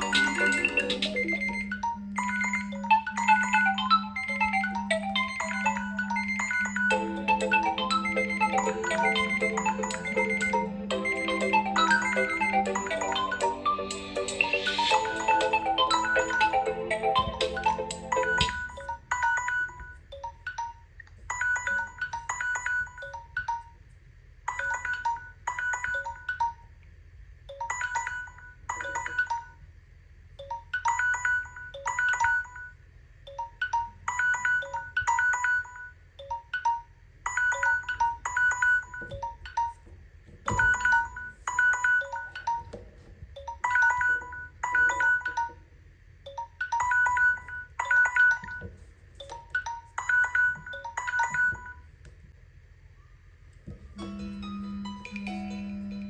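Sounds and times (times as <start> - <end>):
phone alarm melody: 0.0 - 23.7, 27.6 - 29.6, 30.4 - 39.8, 40.5 - 42.8, 43.4 - 45.6, 46.3 - 51.9, 54.0 - 56.0.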